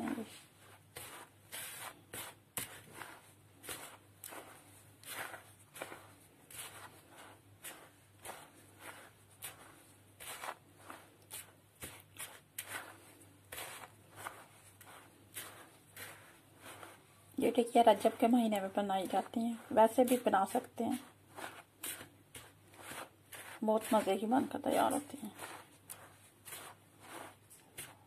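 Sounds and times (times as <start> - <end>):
hand swishing dry flour mix: 0.0 - 28.0.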